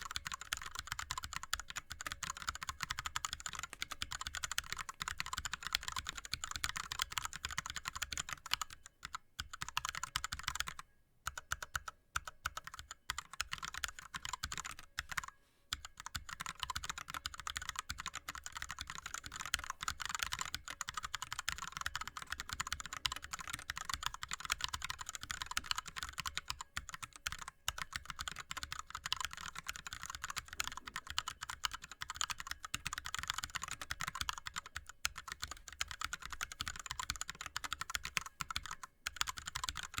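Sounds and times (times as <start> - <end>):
fast keyboard typing: 0.0 - 40.0.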